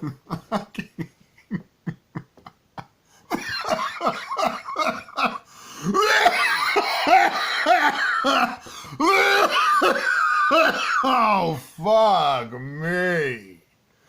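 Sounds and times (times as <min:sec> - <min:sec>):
man laughing: 0:00.0 - 0:12.1.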